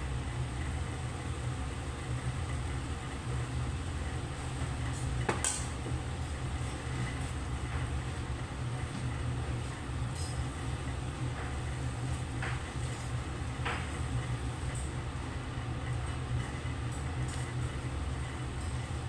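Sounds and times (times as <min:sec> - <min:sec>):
stove rumble: 0:00.0 - 0:19.0.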